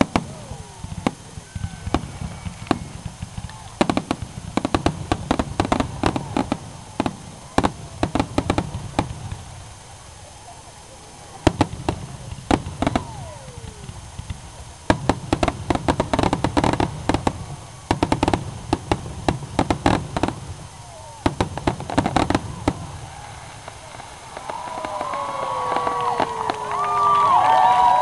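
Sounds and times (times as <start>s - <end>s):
crackling firework pops: 0.0s - 28.0s
fireworks bursting: 0.0s - 28.0s.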